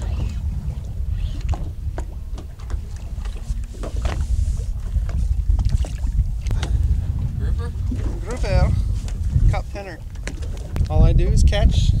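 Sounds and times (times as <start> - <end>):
water lapping against boat hull: 0.0 - 12.0
wind rumbling on microphone: 0.0 - 12.0.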